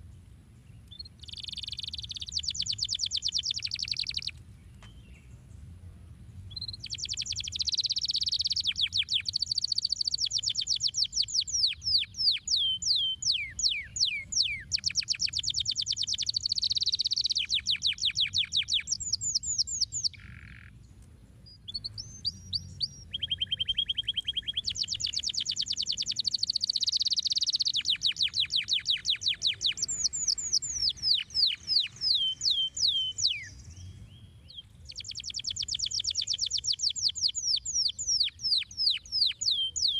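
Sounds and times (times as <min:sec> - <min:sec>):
canary singing trills: 0:00.7 - 0:05.3, 0:06.5 - 0:20.9, 0:21.5 - 0:39.9.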